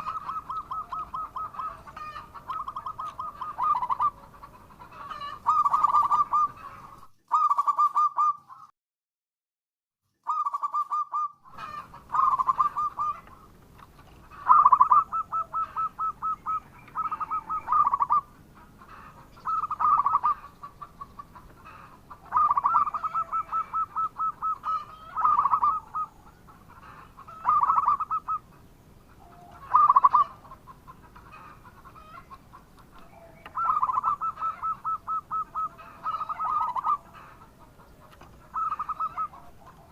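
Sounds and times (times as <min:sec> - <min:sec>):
dove cooing: 0:00.0 - 0:08.4, 0:10.3 - 0:32.4, 0:33.0 - 0:39.9.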